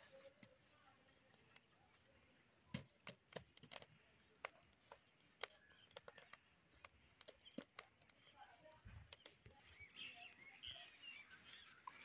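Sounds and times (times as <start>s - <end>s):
embers crackling when stirred: 0.0s - 12.0s.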